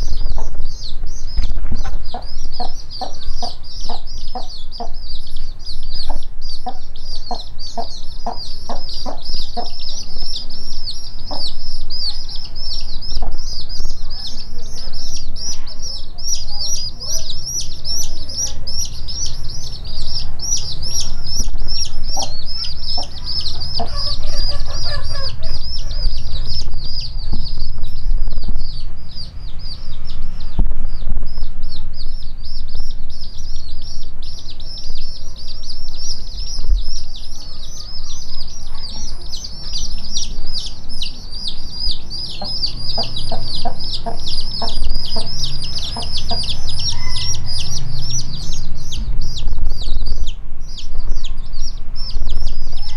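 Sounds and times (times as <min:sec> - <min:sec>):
hen clucking: 0:00.0 - 0:30.5, 0:31.3 - 0:49.9
chicks peeping: 0:00.0 - 0:52.9.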